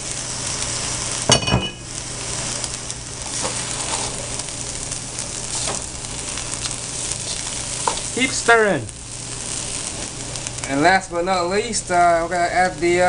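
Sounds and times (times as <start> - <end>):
rice sizzling in a wok: 0.0 - 13.0.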